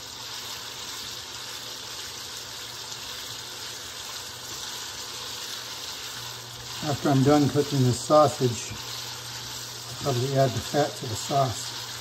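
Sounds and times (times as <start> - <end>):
sausage sizzling in a skillet: 0.0 - 12.0
spatula stirring in a pan: 0.0 - 12.0.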